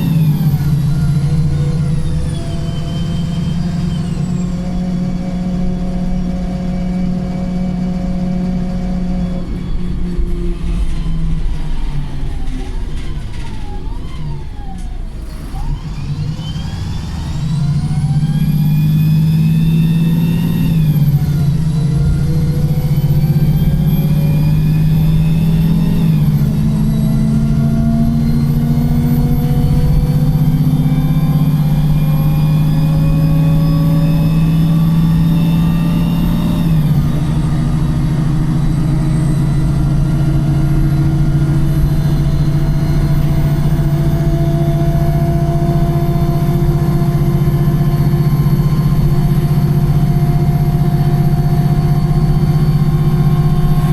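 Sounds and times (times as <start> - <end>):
bus accelerating with gearbox whine: 0.0 - 53.9.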